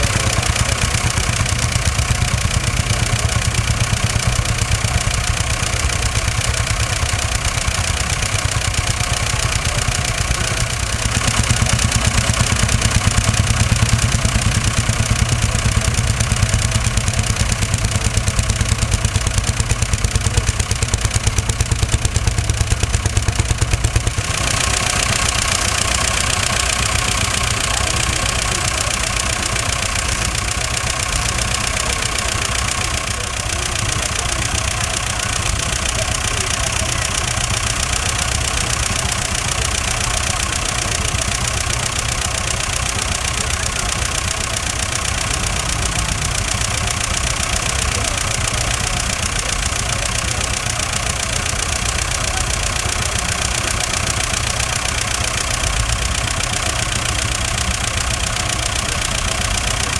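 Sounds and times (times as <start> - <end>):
excavator engine running: 0.0 - 59.9
tractor engine running: 0.0 - 59.9.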